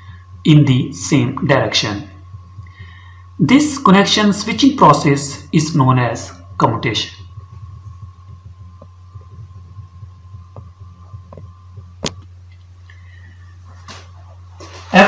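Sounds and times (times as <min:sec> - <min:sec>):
faint low thumps: 0:00.0 - 0:14.6
steady low hum: 0:00.0 - 0:15.0.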